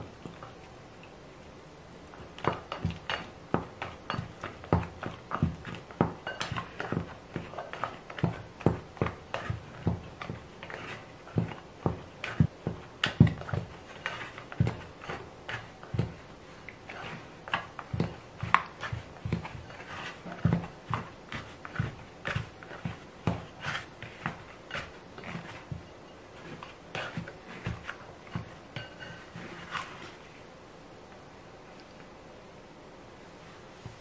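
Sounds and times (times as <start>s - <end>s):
dough squelching: 0.0s - 30.4s
dough scraper on glass bowl: 2.4s - 30.1s.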